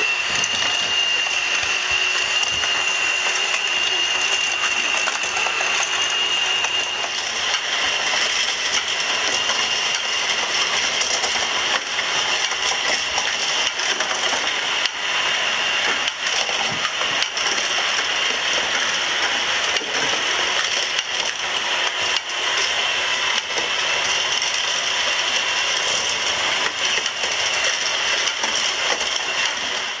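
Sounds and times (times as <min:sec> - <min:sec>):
toy lift motor whirring: 0:00.0 - 0:30.0.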